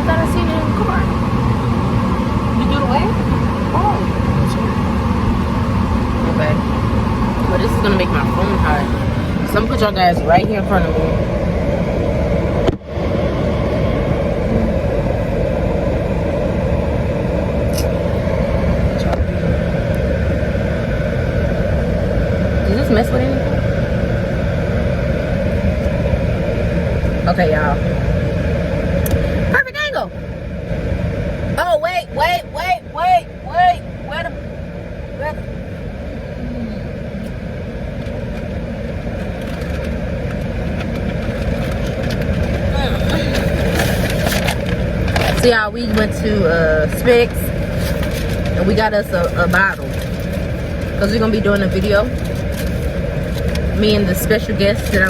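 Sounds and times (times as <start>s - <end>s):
car cabin rumble and hum: 0.0s - 55.0s.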